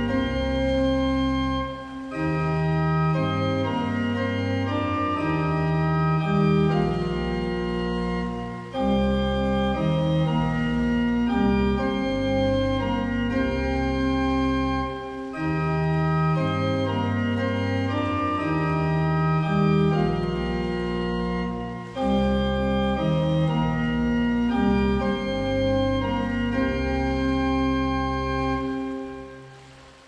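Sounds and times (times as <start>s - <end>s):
organ playing hymn chords: 0.0s - 29.7s.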